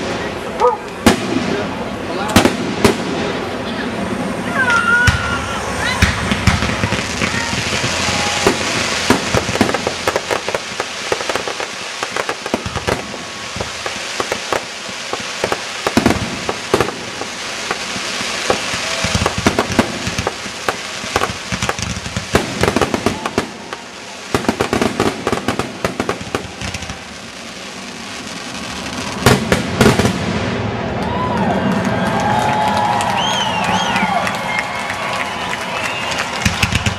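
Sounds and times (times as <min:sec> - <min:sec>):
fireworks bangs and pops: 0:00.0 - 0:33.8, 0:34.9 - 0:36.9.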